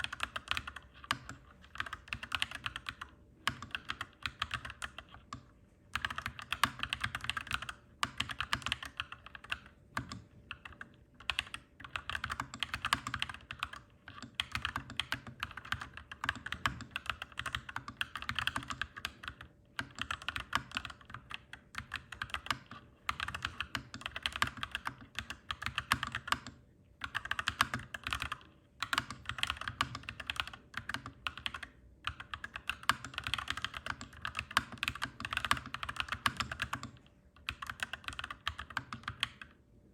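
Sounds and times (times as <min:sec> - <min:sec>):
mechanical keyboard typing: 0:00.0 - 0:39.6.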